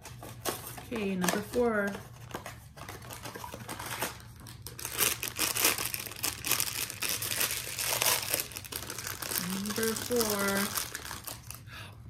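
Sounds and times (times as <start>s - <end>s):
wrapper crinkling and tearing: 0.0s - 11.7s.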